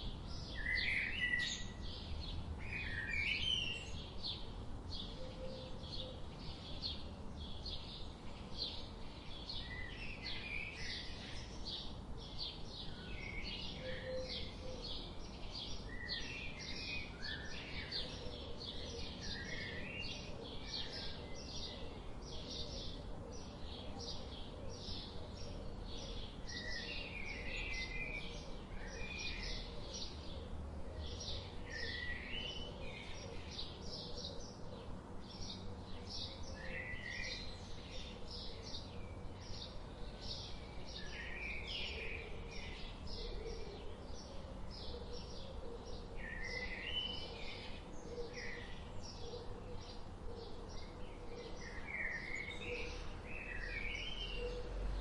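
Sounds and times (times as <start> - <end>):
birds warbling song: 0.0 - 55.0.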